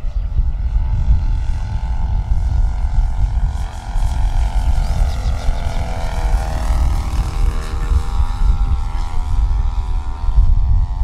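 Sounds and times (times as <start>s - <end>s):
low rumble: 0.0s - 11.0s
model airplane engine droning: 0.0s - 11.0s.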